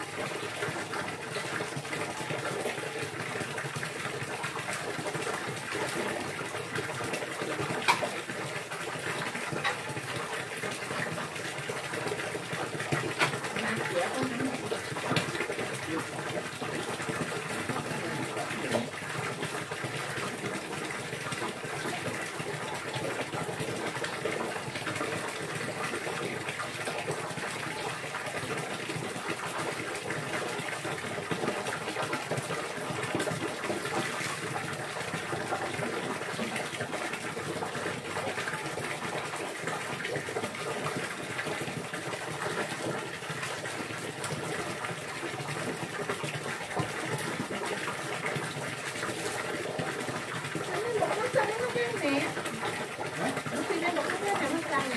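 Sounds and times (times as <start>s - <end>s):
rushing water: 0.0s - 54.9s.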